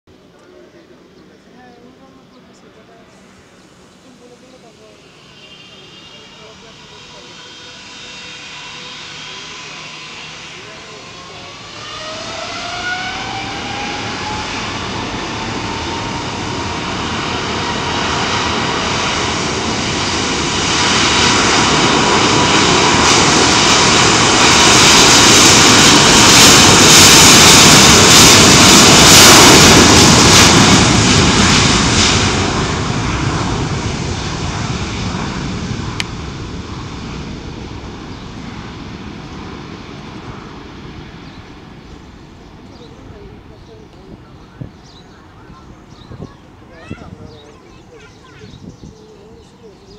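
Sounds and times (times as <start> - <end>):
jet engine whine: 0.1 - 49.9
jet noise of airliner: 0.1 - 49.9.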